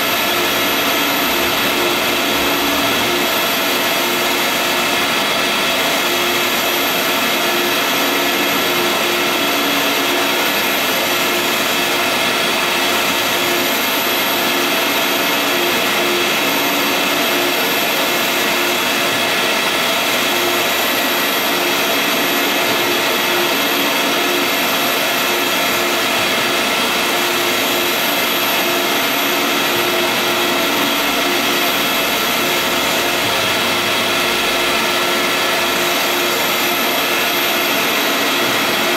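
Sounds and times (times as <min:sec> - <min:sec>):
printer machine whir: 0:00.0 - 0:38.9.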